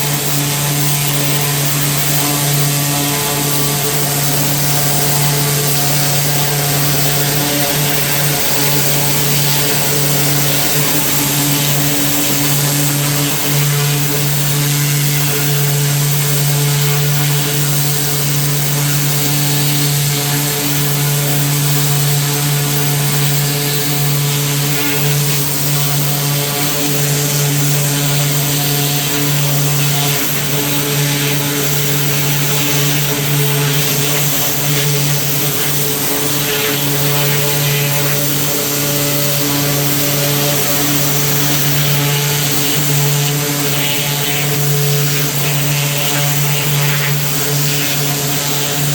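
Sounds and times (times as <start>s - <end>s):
small engine machine humming: 0.0s - 48.9s.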